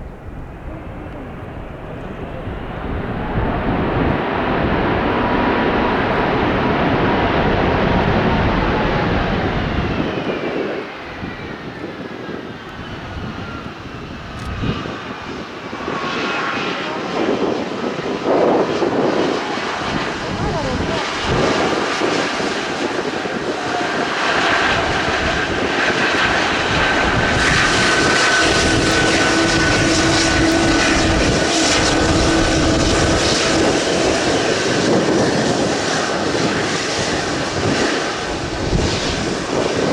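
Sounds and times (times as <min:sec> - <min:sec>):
jet engines rushing with whine: 0:00.0 - 0:39.9.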